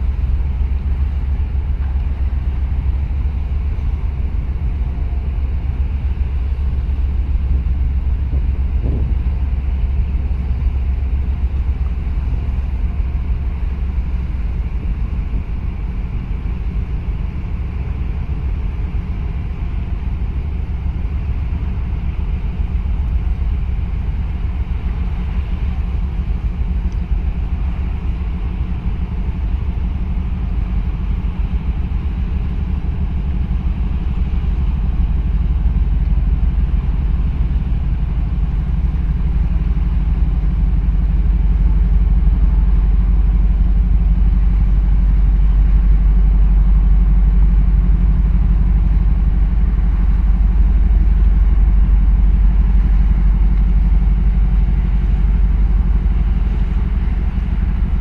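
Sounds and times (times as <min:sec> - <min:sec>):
ship engine rumble: 0:00.0 - 0:58.0.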